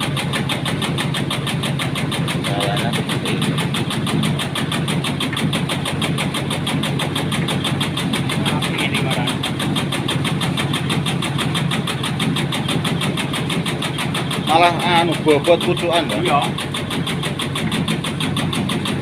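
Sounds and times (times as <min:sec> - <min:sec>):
cutting machine droning: 0:00.0 - 0:19.0.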